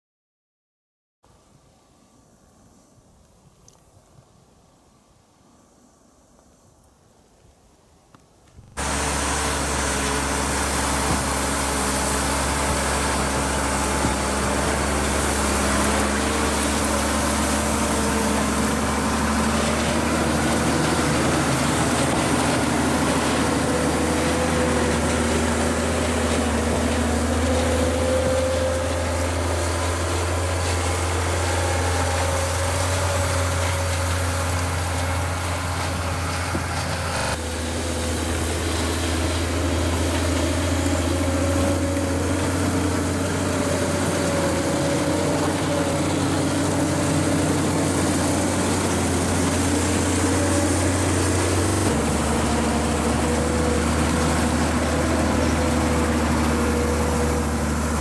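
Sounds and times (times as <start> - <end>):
diesel engine running: 8.7 - 58.0.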